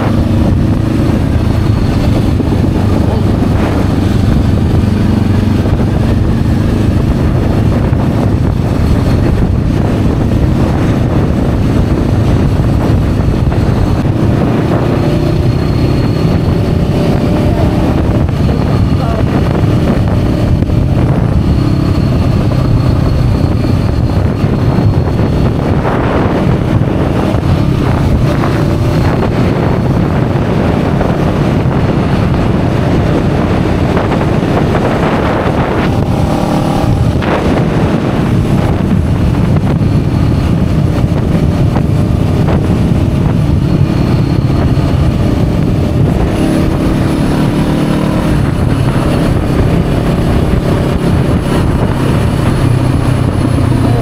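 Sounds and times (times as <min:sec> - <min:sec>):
motorcycle engine: 0:00.0 - 0:54.0
wind rushing over microphone: 0:00.0 - 0:54.0.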